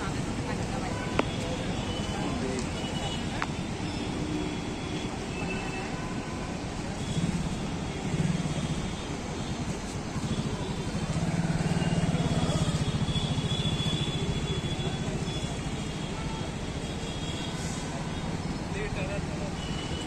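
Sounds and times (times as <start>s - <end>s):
vehicles rumbling on bridge: 0.0s - 20.0s.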